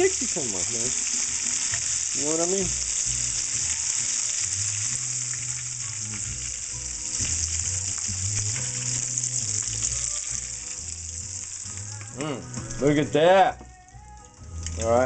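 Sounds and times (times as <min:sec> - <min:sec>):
shrimp deep-frying in oil: 0:00.0 - 0:15.0.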